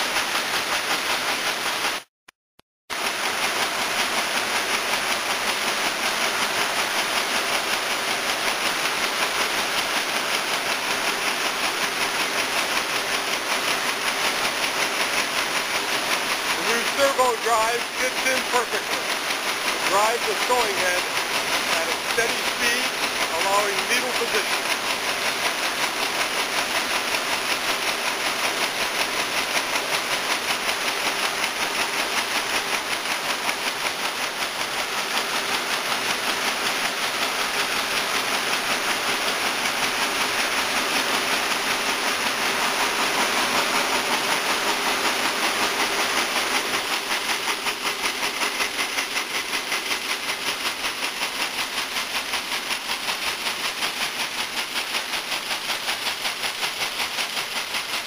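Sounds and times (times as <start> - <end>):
machine hiss: 4.5 - 58.0
quilting machine needles clattering: 9.1 - 58.0.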